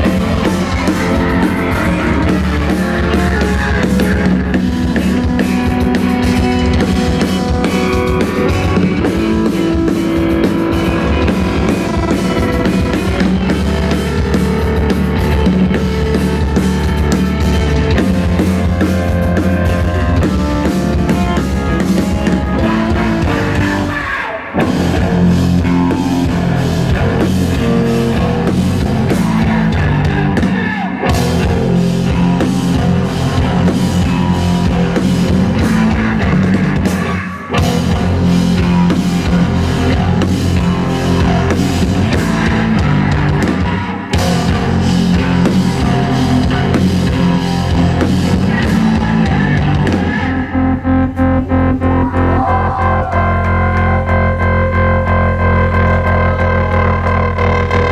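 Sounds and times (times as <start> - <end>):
live rock band playing loud: 0.0 - 57.9.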